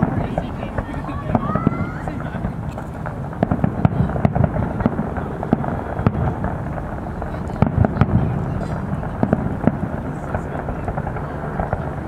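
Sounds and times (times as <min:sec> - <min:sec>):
fireworks bangs and pops: 0:00.0 - 0:12.0
steady low rumble: 0:00.0 - 0:12.0.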